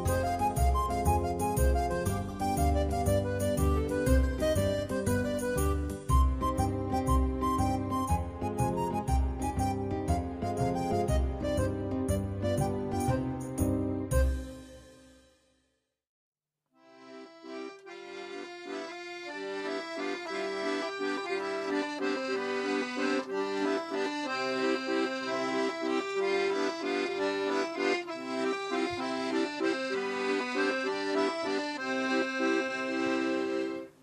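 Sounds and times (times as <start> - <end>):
accordion playing folk tune: 0.0 - 15.0, 16.8 - 34.0.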